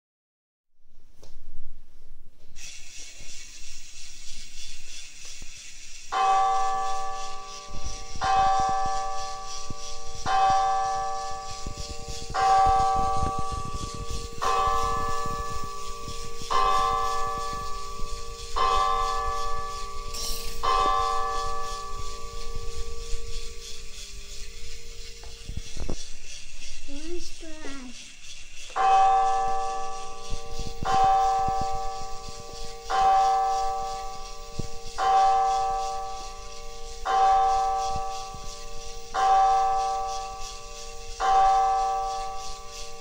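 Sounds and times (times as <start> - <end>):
toy motor clatter: 2.6 - 43.0.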